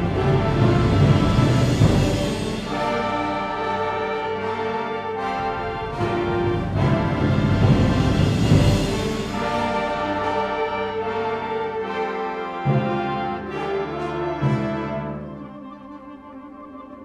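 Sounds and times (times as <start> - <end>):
low percussion: 0.0 - 16.2
brass and woodwind chords: 0.0 - 17.0.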